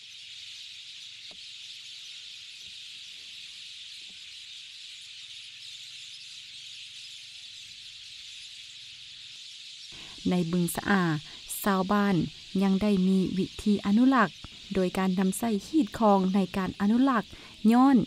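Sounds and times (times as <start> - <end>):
high-pitched chorus of wildlife calls: 0.0 - 18.0.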